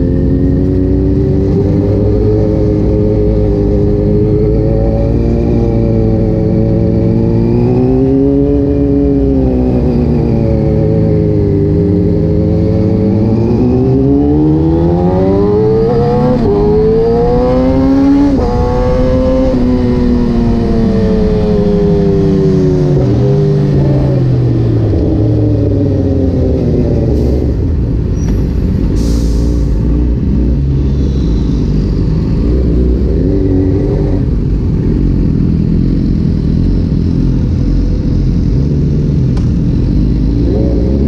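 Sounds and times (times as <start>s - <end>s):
motorcycle engine accelerating: 0.0s - 28.2s, 29.8s - 41.0s
wind rumble: 0.0s - 41.0s.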